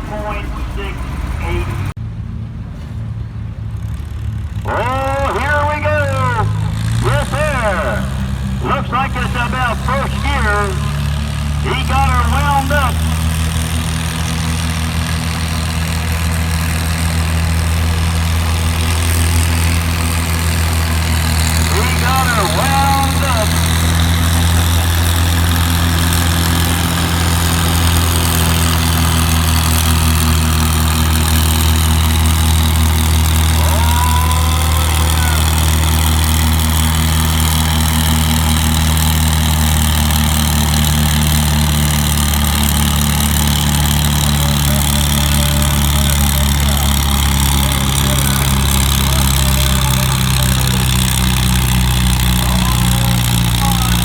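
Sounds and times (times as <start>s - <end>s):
tractor engine drone at high revs: 0.0s - 54.0s.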